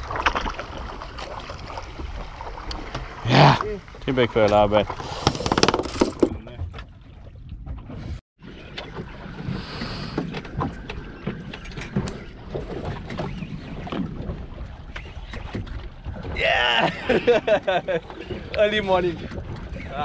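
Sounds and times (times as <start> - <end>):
water slapping boat hull: 0.0 - 20.0.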